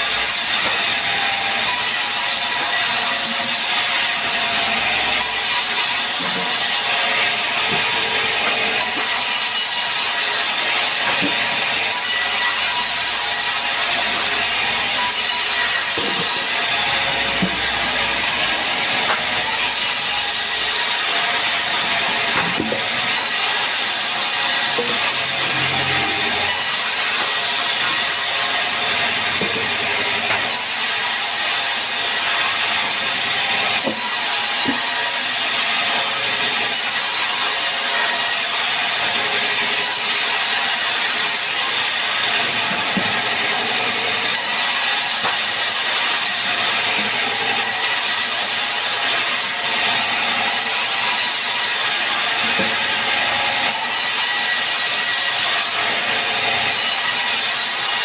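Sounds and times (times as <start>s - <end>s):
band saw blade whining through log: 0.0s - 58.0s.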